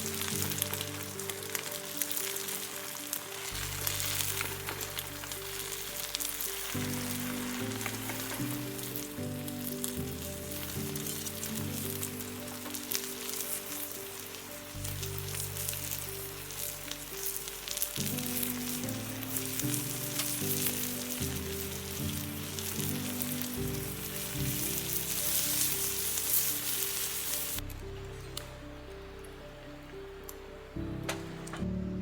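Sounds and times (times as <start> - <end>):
food sizzling in a pan: 0.0 - 27.7
soft background music: 0.0 - 32.0.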